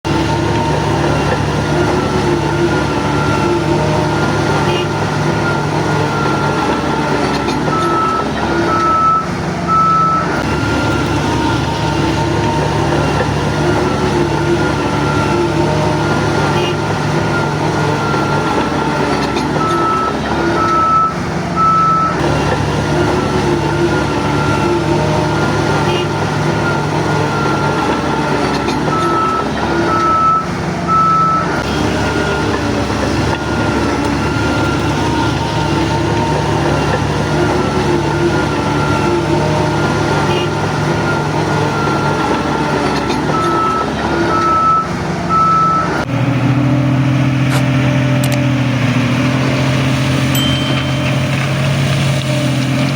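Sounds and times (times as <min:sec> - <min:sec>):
bulldozer diesel engine running: 0:00.0 - 0:52.9
reversing alarm beeping: 0:00.1 - 0:46.1.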